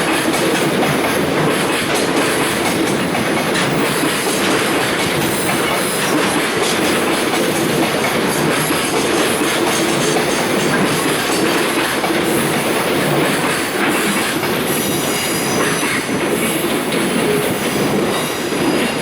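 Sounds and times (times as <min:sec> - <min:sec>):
clickety-clack over rail joints: 0:00.0 - 0:19.0
train wheels rumbling on rail: 0:00.0 - 0:19.0.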